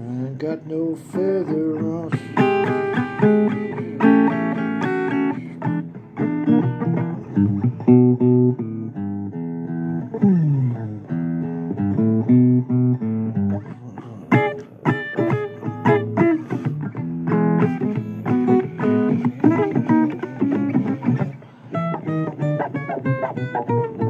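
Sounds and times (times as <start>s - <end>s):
blues guitar playing: 0.0s - 24.0s.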